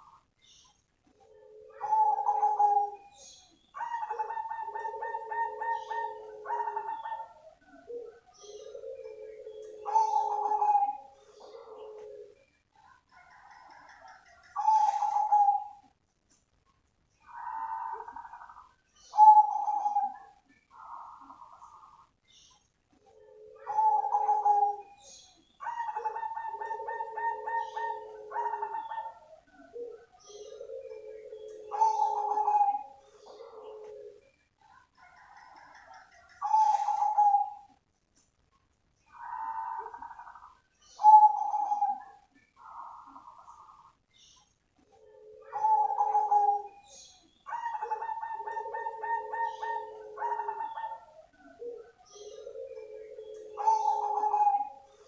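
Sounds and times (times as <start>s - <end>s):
dove cooing: 1.1s - 3.2s, 3.8s - 15.9s, 17.2s - 22.1s, 23.0s - 37.8s, 39.1s - 44.0s, 44.8s - 55.0s.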